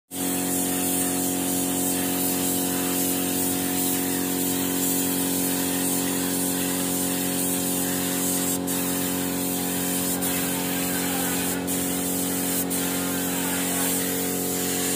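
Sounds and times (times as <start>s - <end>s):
spray gun hissing: 0.1s - 14.9s.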